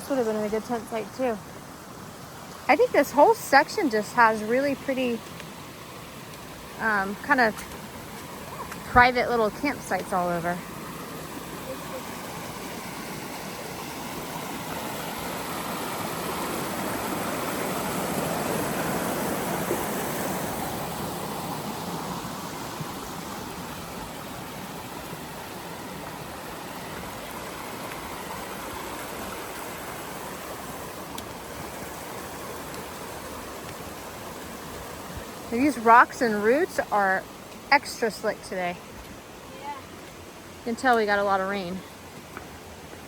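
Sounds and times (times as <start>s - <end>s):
stream running over rocks: 0.0s - 43.0s.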